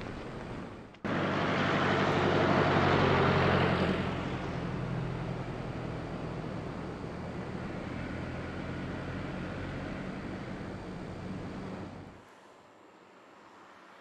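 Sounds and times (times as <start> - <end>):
low engine hum: 0.0 - 13.8
vehicle passing: 1.0 - 14.0.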